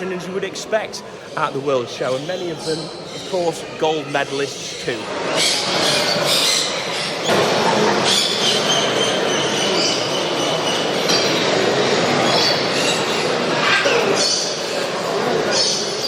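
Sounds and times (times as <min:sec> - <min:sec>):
parrots screeching and chattering: 0:01.0 - 0:16.0.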